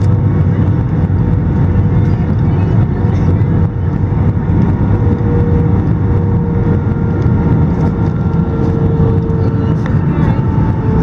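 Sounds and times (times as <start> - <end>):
airplane cabin engine rumble: 0.0 - 11.0
faint steady whine: 0.0 - 11.0.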